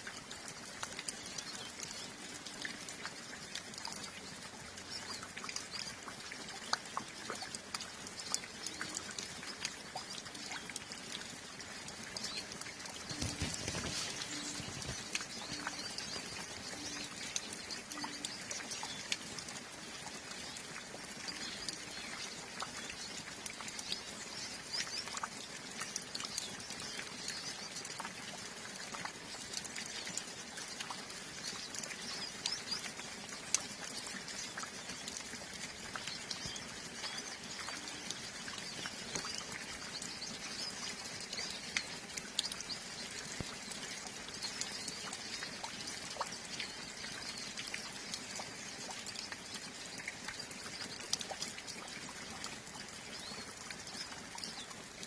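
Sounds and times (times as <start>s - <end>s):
birds chirping and twittering: 0.0s - 55.0s
light rain pattering: 0.0s - 55.0s
water drips: 0.0s - 55.0s.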